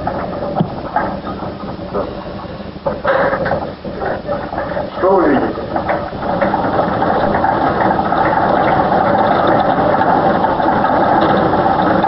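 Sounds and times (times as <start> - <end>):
hand-cranked machine clatter: 0.0 - 12.0.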